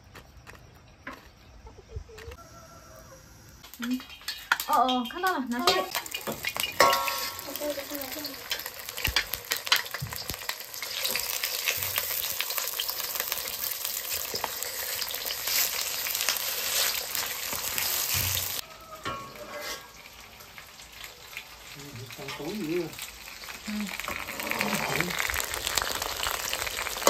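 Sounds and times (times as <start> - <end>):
food sizzling in oil: 2.4 - 27.0.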